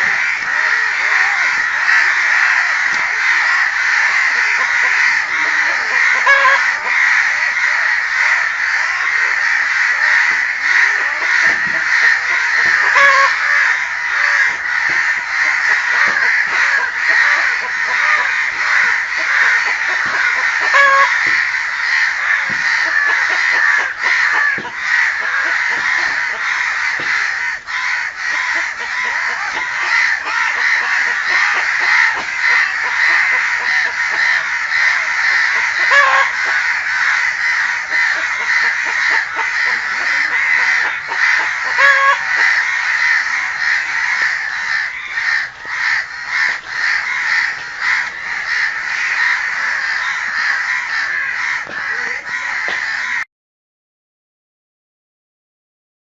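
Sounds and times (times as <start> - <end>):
crows cawing: 0.0 - 53.3.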